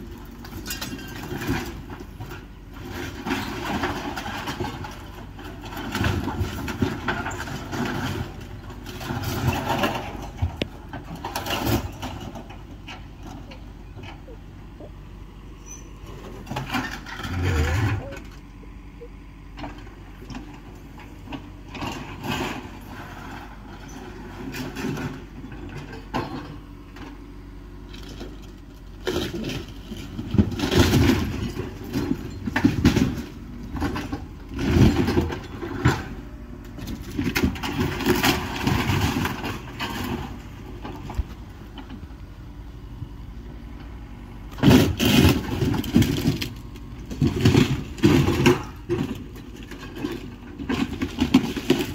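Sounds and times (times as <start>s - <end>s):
lumber and metal crashing: 0.0s - 14.3s, 19.6s - 27.1s, 28.0s - 42.1s, 44.5s - 51.9s
diesel engine running: 0.0s - 51.9s.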